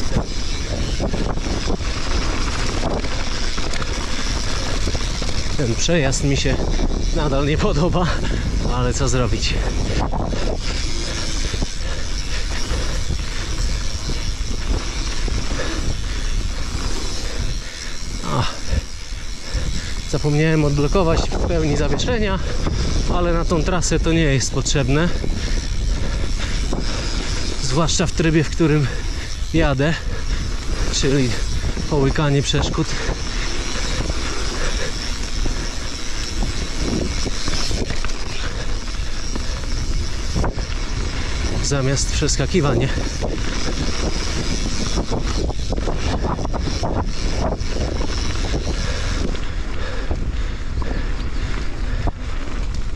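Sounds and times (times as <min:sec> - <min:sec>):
bike rattling over bumps: 0:00.0 - 0:52.9
wind rumble on microphone: 0:00.0 - 0:52.9.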